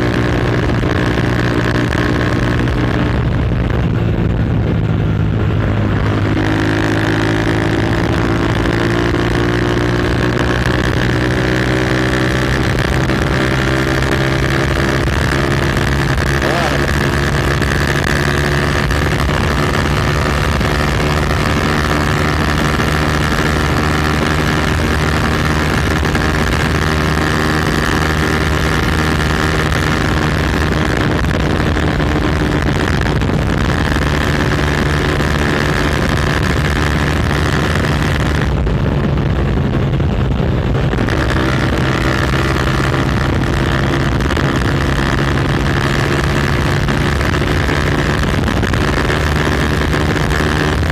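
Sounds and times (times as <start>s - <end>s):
motorcycle with loud exhaust: 0.0s - 50.9s.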